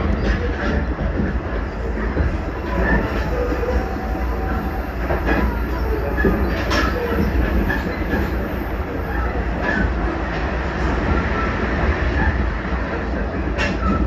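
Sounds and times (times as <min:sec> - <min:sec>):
train rumble on board: 0:00.0 - 0:14.0
wheels clicking on rails: 0:00.0 - 0:14.0.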